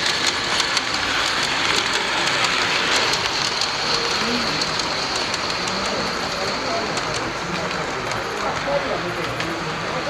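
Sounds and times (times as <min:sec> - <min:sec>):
model train wheels rolling on rails: 0:00.0 - 0:10.0
scattered clicks: 0:00.0 - 0:10.0.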